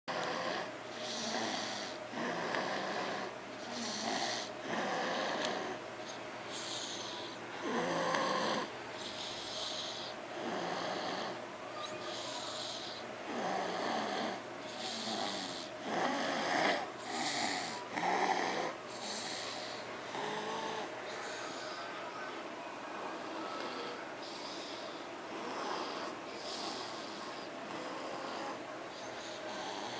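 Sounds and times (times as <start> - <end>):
rasping snores: 0.1 - 11.4, 12.1 - 21.8, 23.2 - 29.9.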